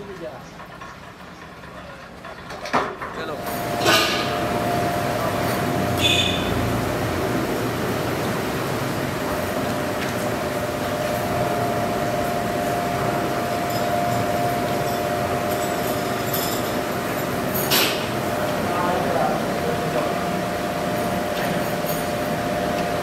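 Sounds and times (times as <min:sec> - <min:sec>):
machinery hum with whine: 0:03.3 - 0:23.0.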